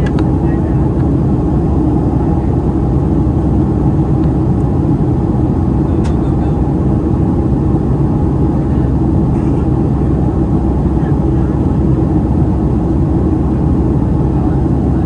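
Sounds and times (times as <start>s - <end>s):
airliner cabin roar: 0.0s - 15.0s.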